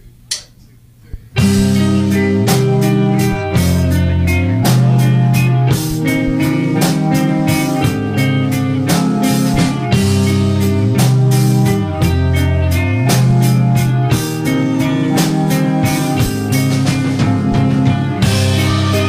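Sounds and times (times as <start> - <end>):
distorted electric guitars: 0.3 - 19.0
hard-hit drums: 1.3 - 19.0.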